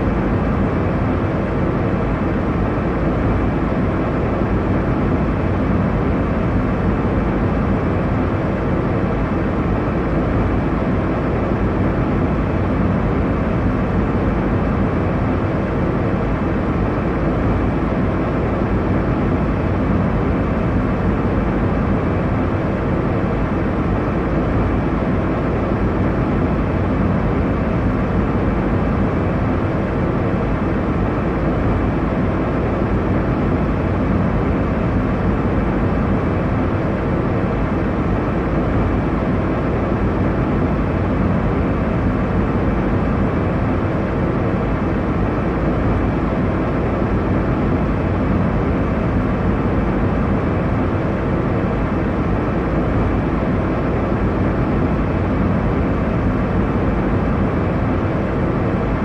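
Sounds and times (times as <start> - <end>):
airliner cabin roar: 0.0 - 59.0.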